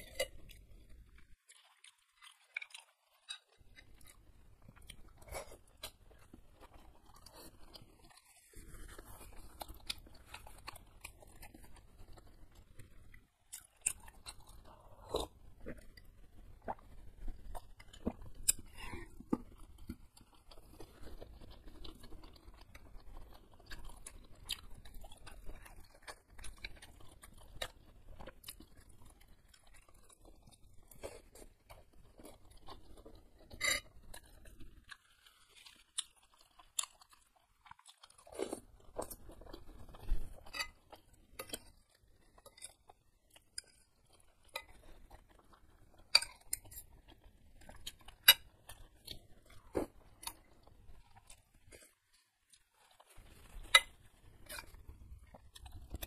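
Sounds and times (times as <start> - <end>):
wet chewing sounds: 0.0 - 56.0.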